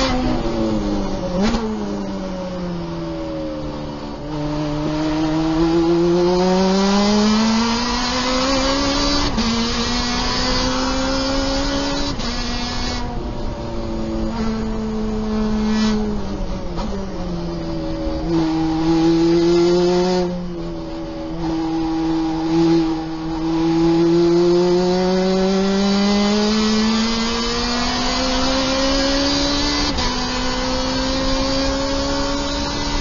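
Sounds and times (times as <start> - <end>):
race car engine: 0.0 - 33.0.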